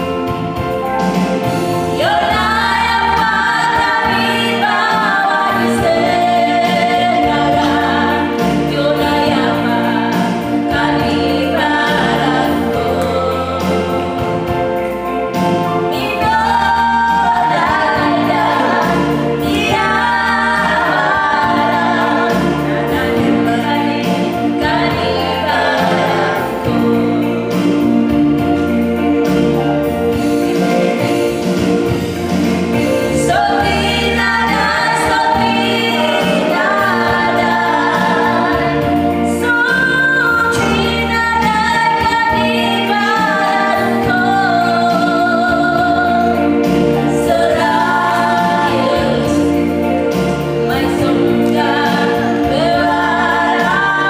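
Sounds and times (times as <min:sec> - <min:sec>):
electronic keyboard chords: 0:00.0 - 0:54.0
women singing gospel song: 0:00.0 - 0:54.0.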